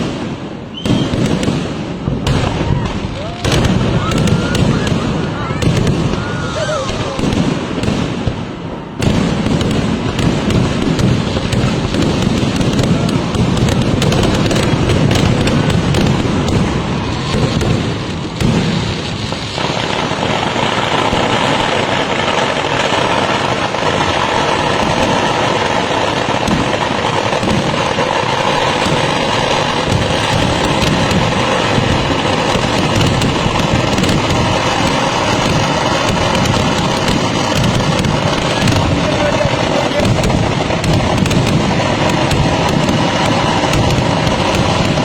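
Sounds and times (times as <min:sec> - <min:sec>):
firecrackers going off rapidly: 0:00.0 - 0:45.0.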